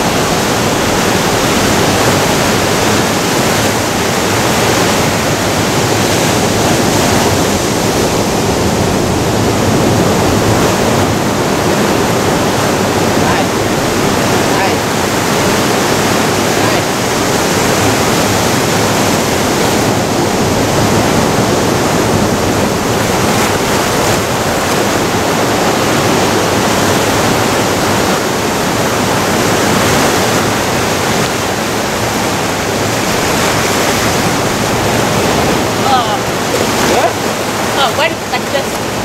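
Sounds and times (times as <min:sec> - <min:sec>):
ocean surf breaking on rocks: 0:00.0 - 0:39.0.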